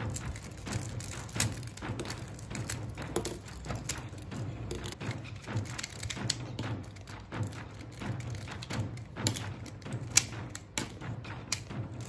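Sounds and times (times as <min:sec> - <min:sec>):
plastic puzzle cubes clicking: 0:00.0 - 0:12.0.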